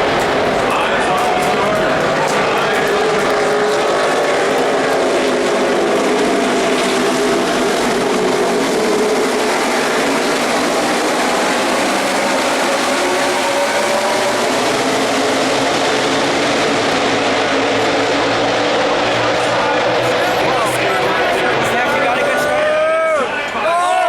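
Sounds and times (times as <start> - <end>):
racing car engines droning past: 0.0 - 23.4.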